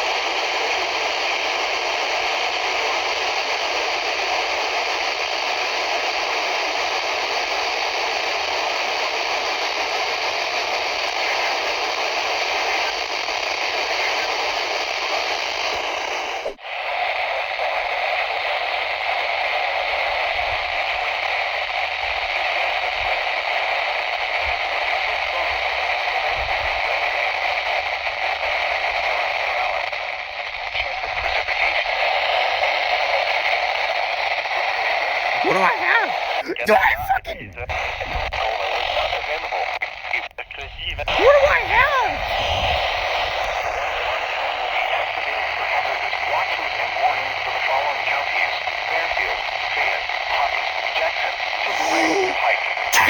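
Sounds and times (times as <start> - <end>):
radio static hiss: 0.0 - 53.0.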